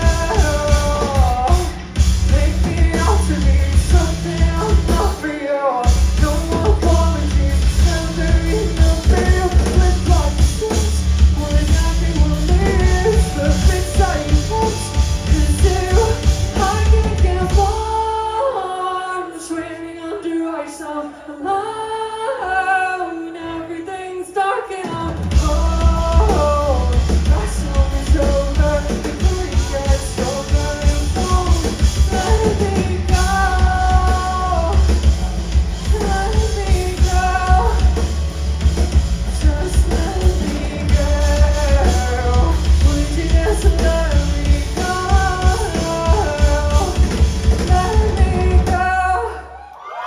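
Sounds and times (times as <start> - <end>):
drums and bass: 0.0 - 18.4, 24.8 - 49.6
woman singing: 0.0 - 49.6
live pop-rock band: 0.0 - 50.0.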